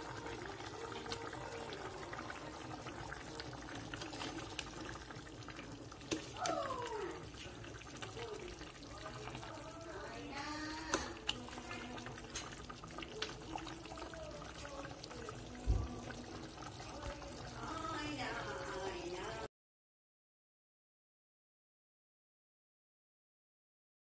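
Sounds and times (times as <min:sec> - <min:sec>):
curry bubbling in a pan: 0:00.0 - 0:19.5.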